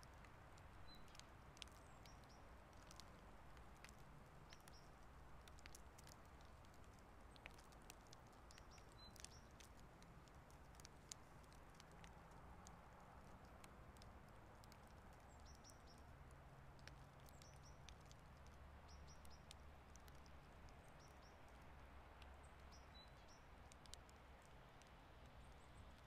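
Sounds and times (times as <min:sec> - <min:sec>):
soft scattered ticks: 0:00.0 - 0:26.0.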